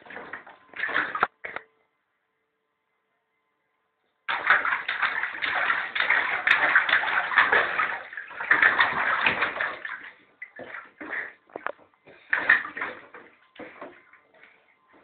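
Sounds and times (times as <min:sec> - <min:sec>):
child splashing bathwater: 0:00.0 - 0:01.6, 0:04.3 - 0:15.0.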